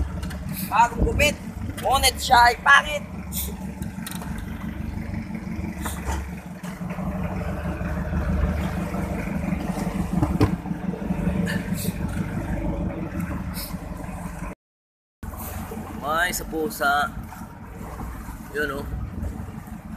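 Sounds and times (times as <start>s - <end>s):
boat engine running: 0.0s - 14.6s, 15.2s - 19.9s.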